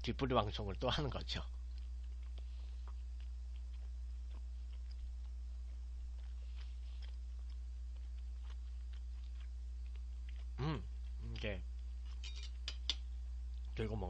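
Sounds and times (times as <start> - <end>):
low electrical hum: 0.0 - 14.0
person chewing with soft clicks: 1.4 - 13.8.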